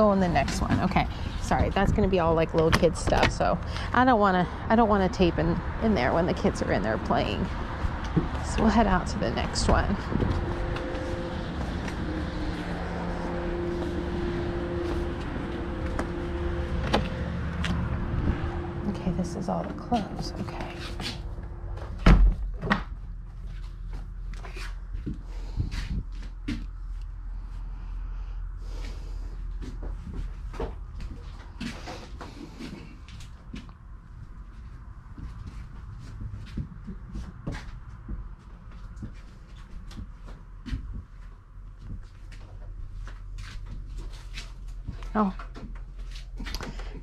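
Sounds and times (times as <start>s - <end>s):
mechanical hum and rumble: 0.0s - 47.0s.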